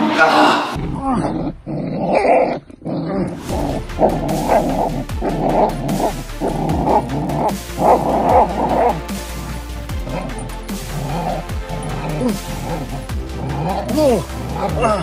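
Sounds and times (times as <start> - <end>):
background music: 0.0 - 15.0
puppy growling and barking: 0.8 - 15.0.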